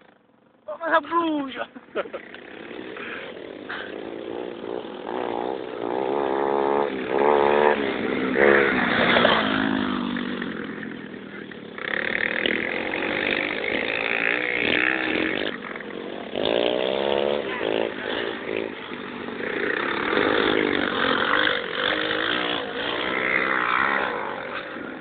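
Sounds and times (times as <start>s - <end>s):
dirt bike engine revving: 1.8s - 25.0s.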